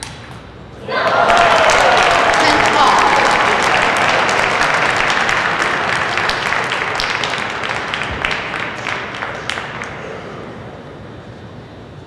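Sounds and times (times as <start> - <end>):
audience applauding: 0.9 - 10.6.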